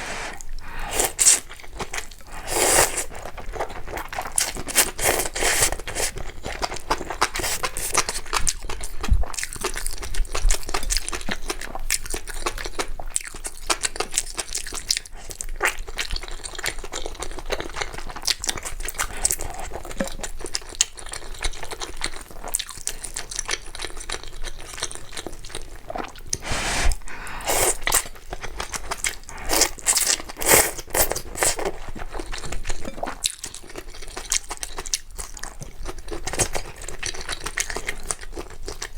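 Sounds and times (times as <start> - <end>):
chewing and crunching: 0.6 - 38.9.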